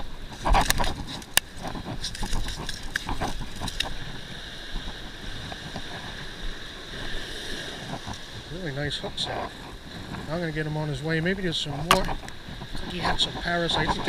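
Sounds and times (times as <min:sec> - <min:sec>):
ocean surf: 0:00.0 - 0:14.0.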